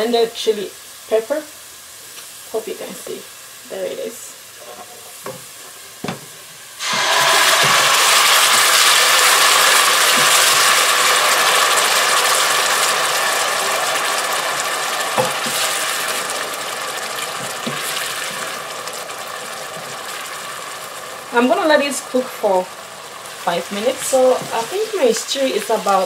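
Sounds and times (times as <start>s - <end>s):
loud sizzle of frying puree: 0.0s - 26.0s.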